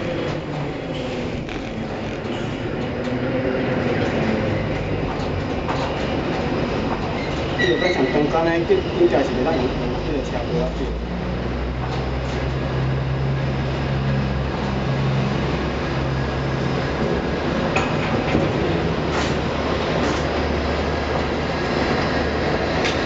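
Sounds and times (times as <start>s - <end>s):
crane machinery rumble and hum: 0.0s - 23.0s.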